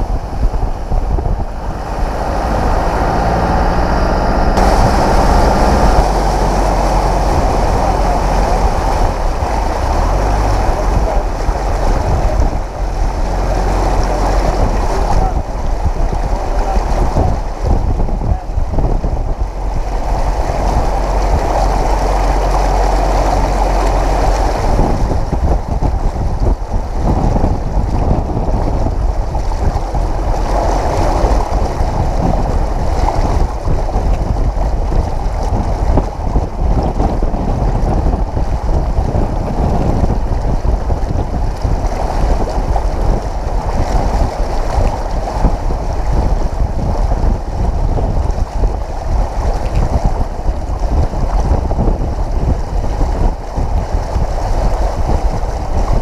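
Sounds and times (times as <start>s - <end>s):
flood water surging and splashing: 0.0s - 56.0s
low rumble: 0.0s - 56.0s.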